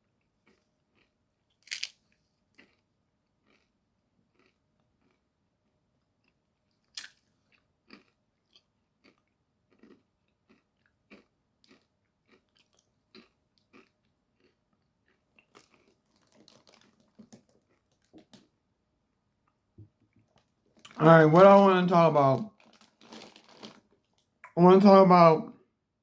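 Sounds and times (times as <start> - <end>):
person chewing with crunches: 0.1 - 18.5, 20.2 - 24.6.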